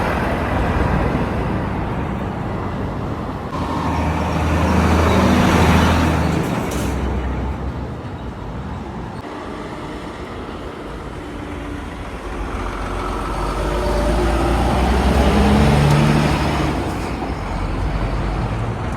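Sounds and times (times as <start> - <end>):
lorries passing on a road: 0.0 - 18.9.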